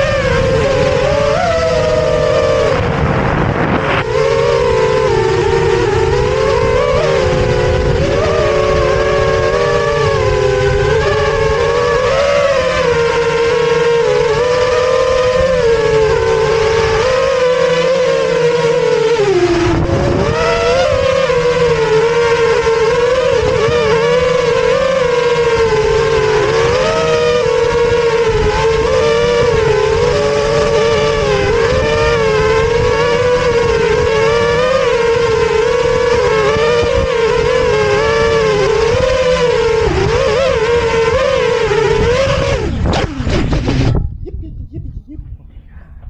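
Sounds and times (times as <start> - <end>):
drone motors whining: 0.0 - 46.0
wind buffeting rumble on microphone: 0.0 - 46.0.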